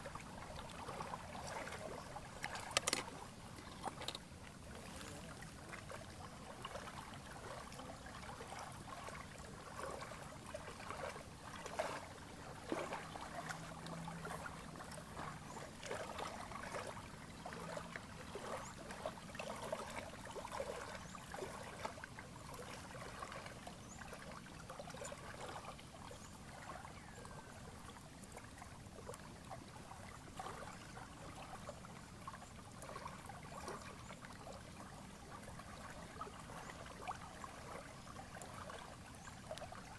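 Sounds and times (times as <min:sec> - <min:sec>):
lake water lapping on shore: 0:00.0 - 0:39.9.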